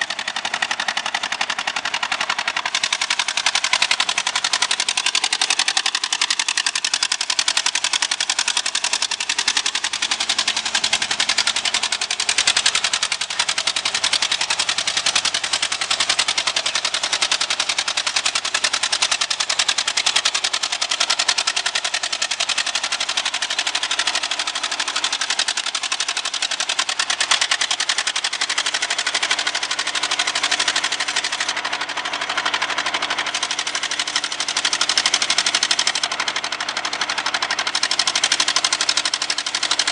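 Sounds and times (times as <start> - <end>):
paver engine clattering: 0.0 - 39.9.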